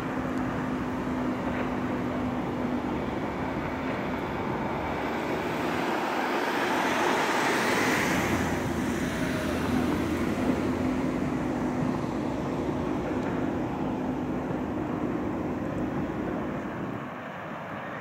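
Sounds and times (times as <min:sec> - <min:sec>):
rushing water from boat wash: 0:00.0 - 0:16.8
motorboat engine humming: 0:00.0 - 0:17.1.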